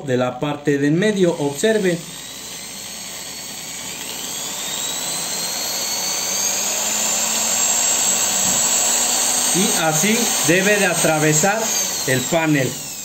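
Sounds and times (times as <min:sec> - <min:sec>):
electric drill whining: 0:00.7 - 0:13.0.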